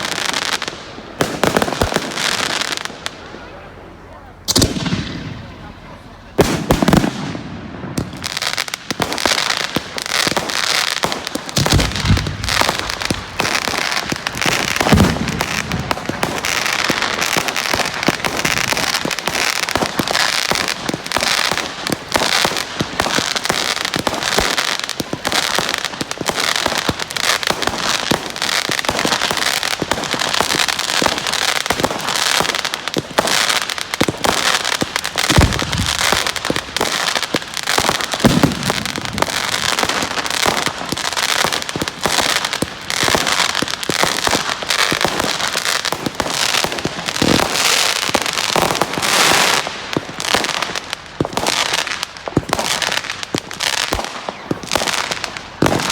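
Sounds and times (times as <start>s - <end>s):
fireworks crackling bangs: 0.0s - 55.9s
deep firework booms: 4.4s - 55.9s.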